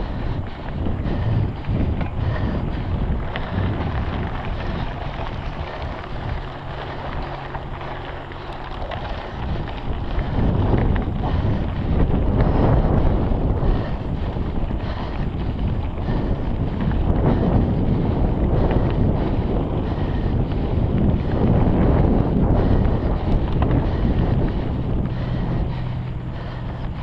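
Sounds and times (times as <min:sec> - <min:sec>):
bike tyres rolling on dirt: 0:00.0 - 0:27.0
low steady hum: 0:00.0 - 0:27.0
wind buffeting microphone: 0:00.0 - 0:27.0.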